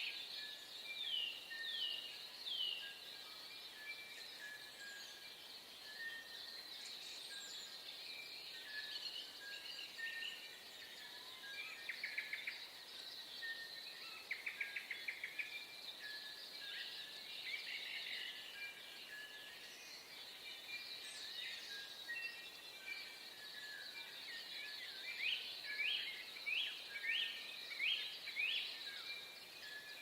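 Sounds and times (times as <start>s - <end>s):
birds calling and singing: 0.0s - 30.0s.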